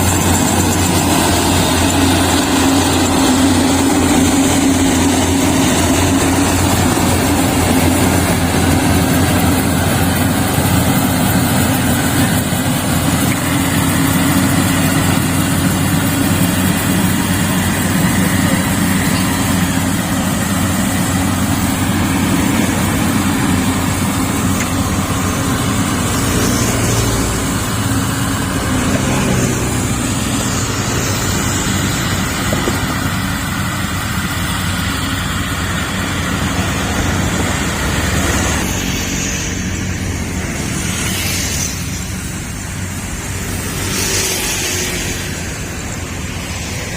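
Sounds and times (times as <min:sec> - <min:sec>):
combine harvester droning: 0:00.0 - 0:46.9.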